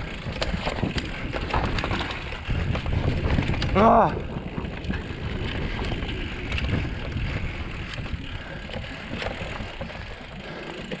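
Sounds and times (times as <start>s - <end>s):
bike rattling clicks: 0.0s - 11.0s
bike tyres rumbling over dirt: 0.0s - 11.0s.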